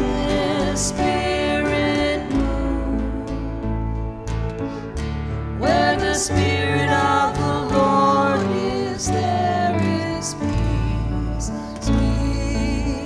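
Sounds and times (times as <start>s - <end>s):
person singing: 0.0s - 4.2s, 5.6s - 13.0s
guitar accompaniment: 0.0s - 13.0s.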